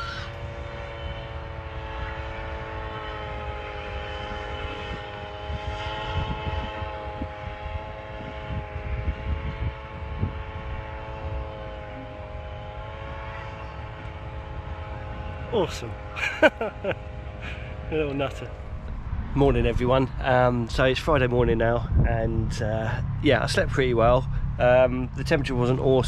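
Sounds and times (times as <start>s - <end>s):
paramotor engine droning: 0.0s - 26.0s
wind buffeting microphone: 0.0s - 26.0s.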